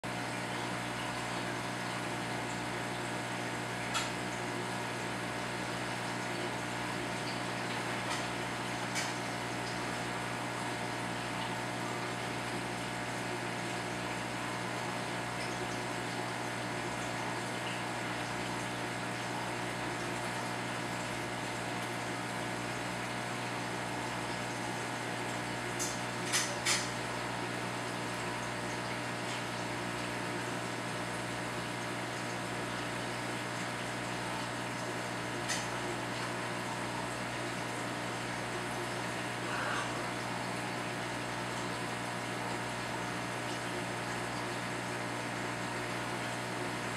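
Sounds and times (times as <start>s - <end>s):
aquarium equipment humming: 0.0s - 46.9s.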